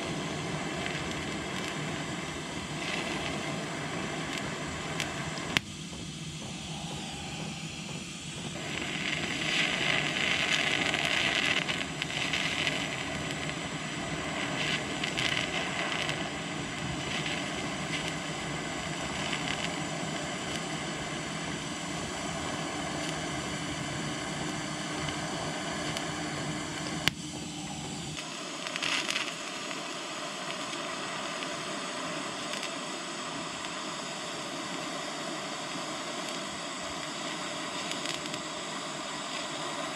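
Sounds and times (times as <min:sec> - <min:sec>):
steady hum: 0:00.0 - 0:39.9
welding arc hissing: 0:00.0 - 0:39.9.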